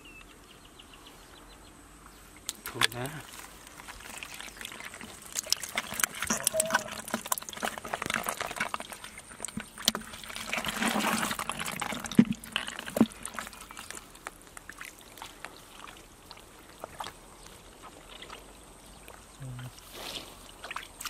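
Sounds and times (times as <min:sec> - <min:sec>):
fish splashing in a bucket: 0:02.4 - 0:21.0.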